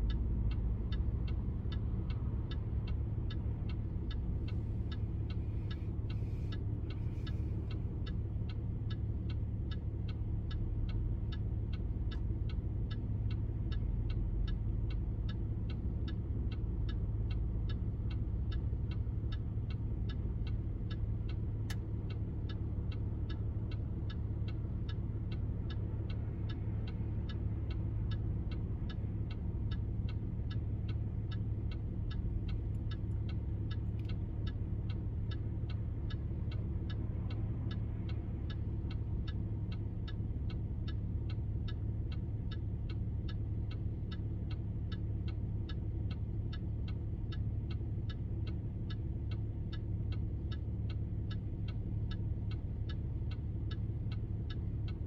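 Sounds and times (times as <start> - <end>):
turn signal ticking: 0.0 - 55.0
car engine idling: 1.6 - 55.0.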